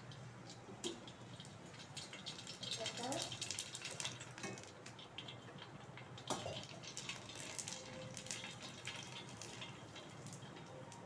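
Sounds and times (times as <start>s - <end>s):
food sizzling in oil: 1.0s - 11.0s.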